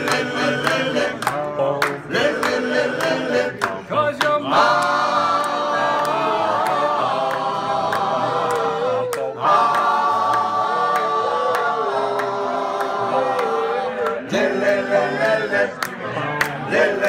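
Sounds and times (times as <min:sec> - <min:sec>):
men singing a cappella harmony: 0:00.0 - 0:17.0.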